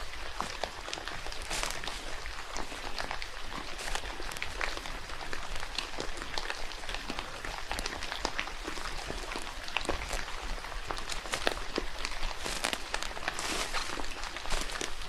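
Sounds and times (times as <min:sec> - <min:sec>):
rain hissing in a forest: 0:00.0 - 0:15.0
raindrops tapping: 0:00.0 - 0:15.0.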